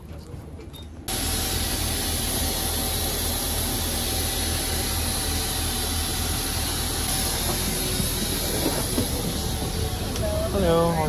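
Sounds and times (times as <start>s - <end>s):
aircraft air systems hum and hiss: 0.1s - 11.0s.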